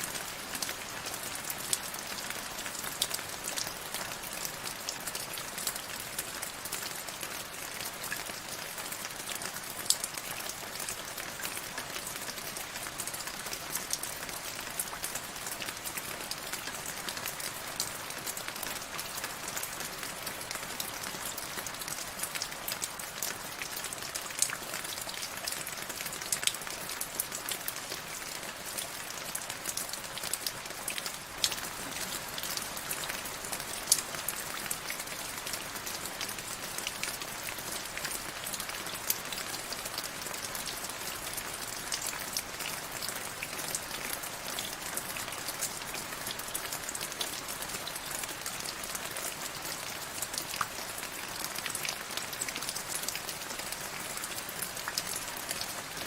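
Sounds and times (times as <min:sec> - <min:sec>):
raindrops ticking on a surface: 0:00.1 - 0:56.0.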